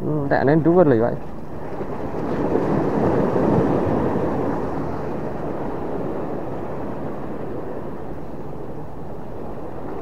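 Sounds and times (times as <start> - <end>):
sea waves at shore: 0.0 - 10.0
wind: 0.0 - 10.0.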